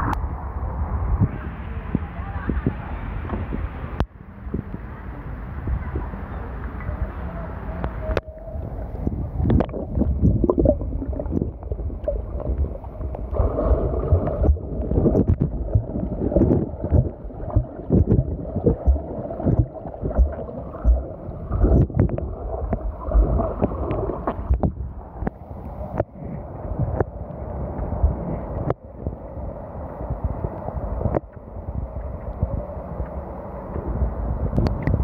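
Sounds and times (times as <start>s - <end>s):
muffled underwater sloshing: 5.8s - 35.0s.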